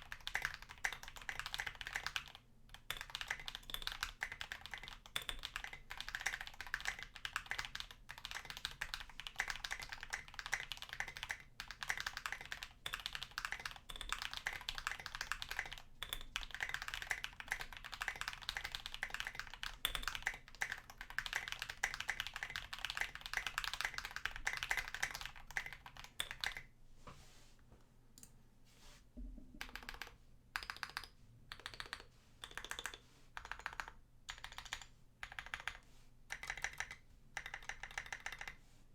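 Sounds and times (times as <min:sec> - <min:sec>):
mechanical keyboard typing: 0:00.0 - 0:26.7, 0:29.6 - 0:38.6.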